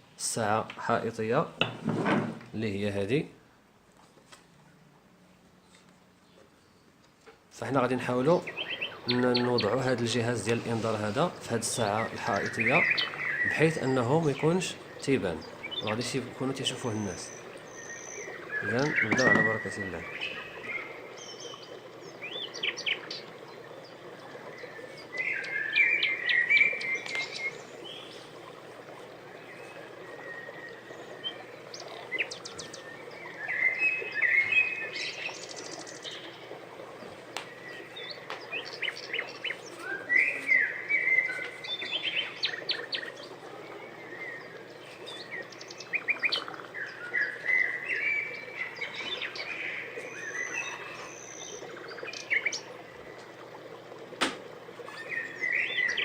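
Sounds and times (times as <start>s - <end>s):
small birds chirping: 5.6s - 56.0s.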